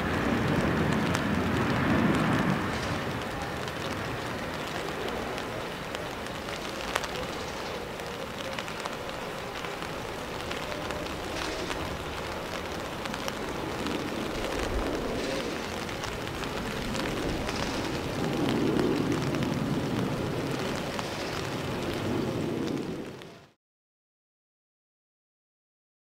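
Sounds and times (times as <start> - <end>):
distant jet engine rumble: 0.0 - 23.6
falling rain: 0.0 - 23.6.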